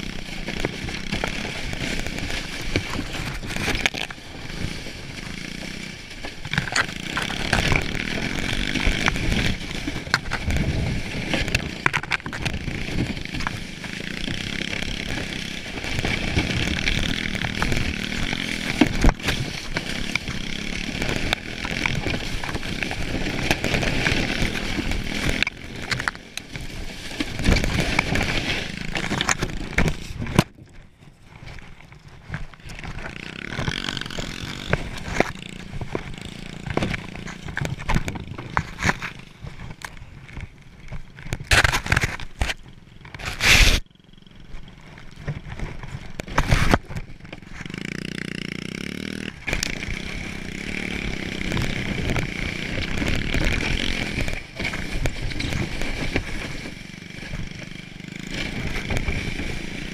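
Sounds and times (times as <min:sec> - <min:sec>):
sled scraping across snow: 0:00.0 - 0:30.4, 0:31.1 - 0:43.9, 0:44.7 - 0:59.9
small motorbike engine running: 0:00.0 - 0:59.9.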